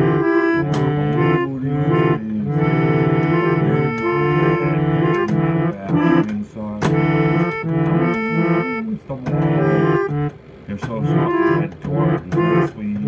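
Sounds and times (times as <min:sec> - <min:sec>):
organ-like chords: 0:00.0 - 0:13.0.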